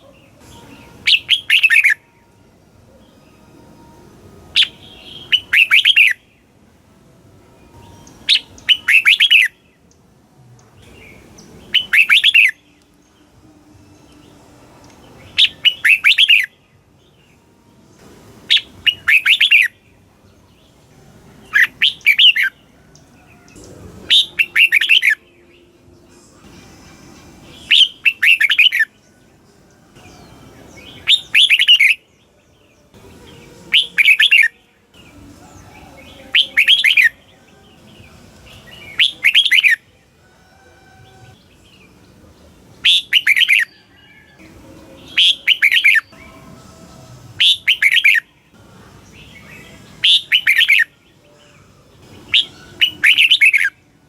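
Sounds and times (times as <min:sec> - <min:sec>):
bird warbling song: 0:00.0 - 0:02.3, 0:04.6 - 0:06.5, 0:07.8 - 0:13.3, 0:14.1 - 0:17.4, 0:18.0 - 0:20.8, 0:21.4 - 0:26.5, 0:27.4 - 0:40.1, 0:41.0 - 0:46.8, 0:47.4 - 0:53.9.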